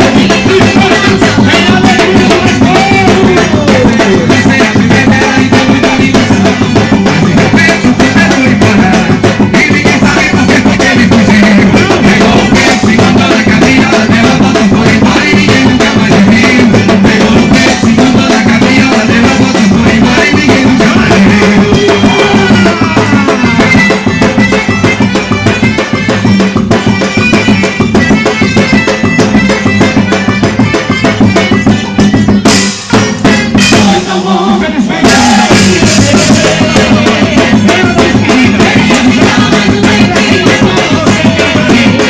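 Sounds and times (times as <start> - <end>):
folk dance music with drum beat: 0.0 - 42.0.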